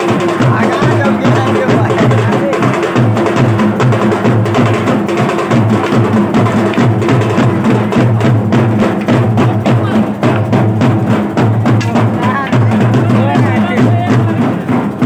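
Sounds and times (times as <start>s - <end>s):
drums played fast: 0.0s - 15.0s.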